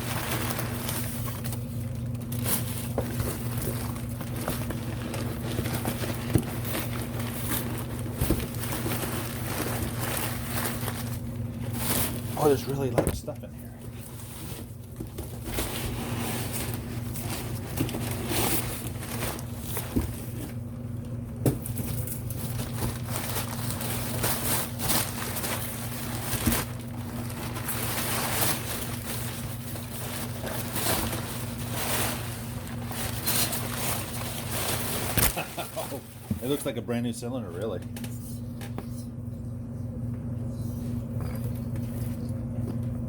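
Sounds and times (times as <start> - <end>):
packing material rustling: 0.0 - 20.8, 21.6 - 36.8
steady low hum: 0.0 - 43.0.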